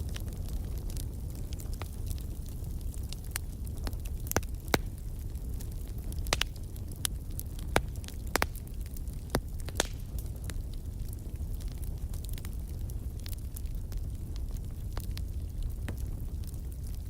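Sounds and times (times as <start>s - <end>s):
fire low rumble: 0.0s - 17.0s
firewood crackling and popping: 0.0s - 17.0s.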